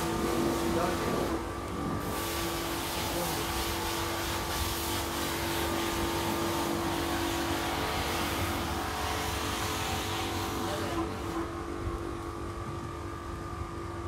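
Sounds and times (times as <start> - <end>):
machine drone: 0.0 - 14.0.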